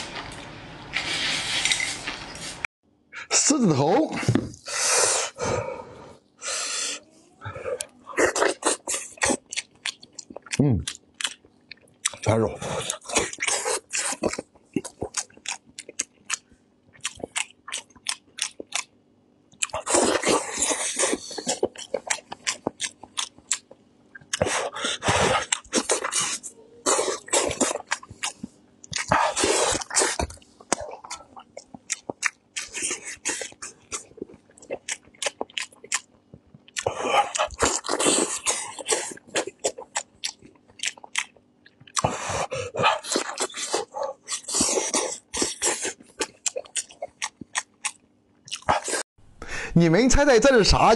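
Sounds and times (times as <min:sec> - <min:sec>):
chewing soft food: 0:07.3 - 0:49.0.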